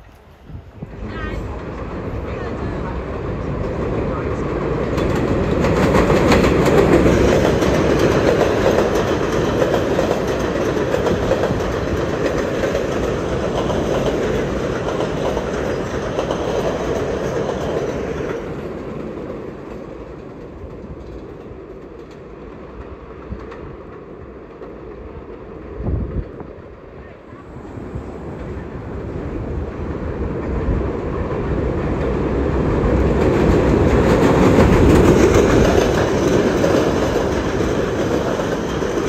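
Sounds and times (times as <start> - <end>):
subway train wheels clattering: 0.0 - 39.0.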